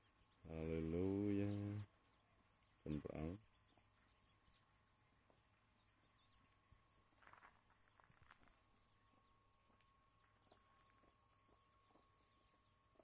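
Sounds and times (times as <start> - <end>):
insect pulsed chirping: 0.0 - 13.0.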